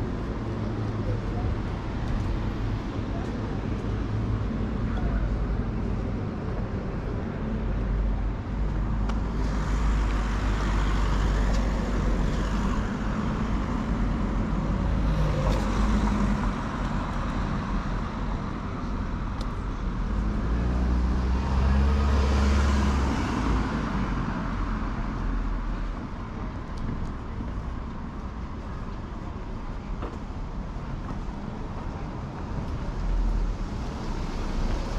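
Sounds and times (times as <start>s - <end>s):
cars passing: 0.0s - 34.9s
low traffic rumble: 0.0s - 34.9s.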